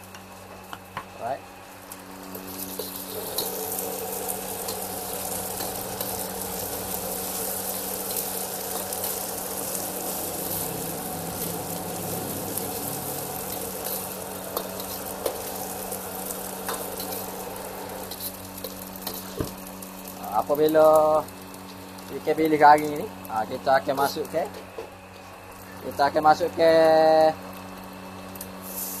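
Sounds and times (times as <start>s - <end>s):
fish frying in oil: 1.8s - 29.0s.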